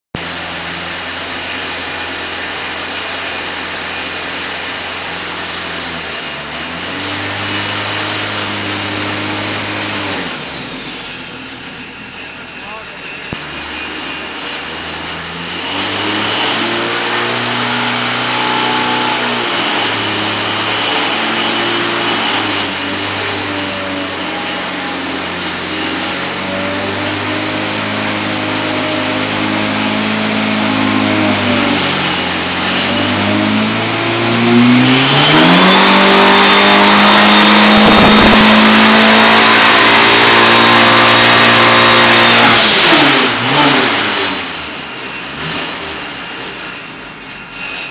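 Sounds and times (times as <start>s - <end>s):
engine running on dyno: 0.1s - 47.9s
turbocharger whine: 0.2s - 47.9s.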